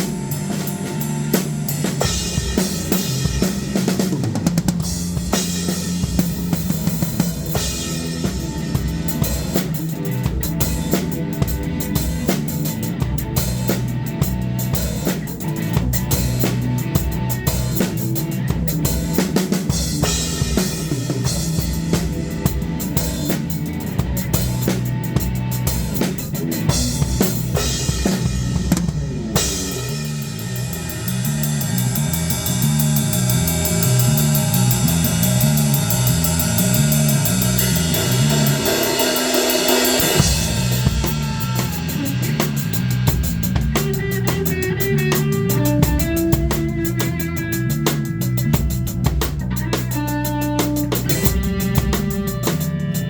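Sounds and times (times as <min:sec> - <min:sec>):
bass guitar: 0:00.0 - 0:53.0
electric guitar: 0:00.0 - 0:53.0
rock drum kit: 0:00.0 - 0:53.0.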